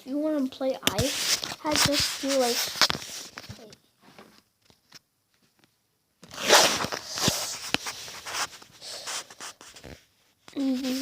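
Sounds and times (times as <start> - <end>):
rustling handling noise: 0.6 - 11.0.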